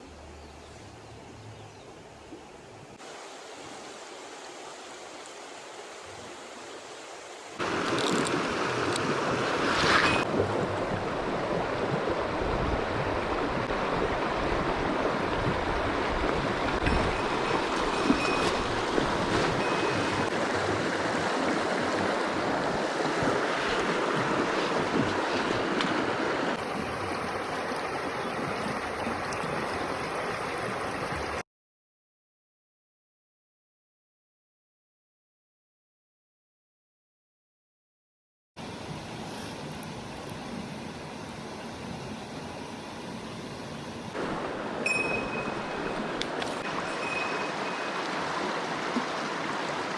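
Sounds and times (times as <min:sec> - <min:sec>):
stream water rushing: 0:00.9 - 0:31.4, 0:38.6 - 0:49.9.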